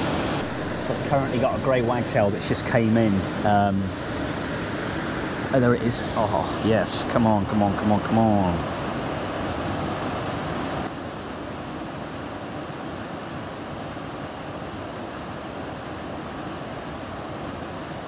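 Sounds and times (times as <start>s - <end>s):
river water pouring over a weir: 0.0s - 18.0s.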